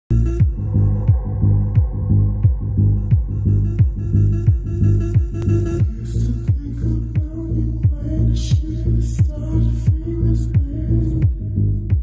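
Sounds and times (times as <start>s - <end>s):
downward-sliding bass hit: 0.1s - 11.9s
electronic music with throbbing bass: 0.1s - 12.0s.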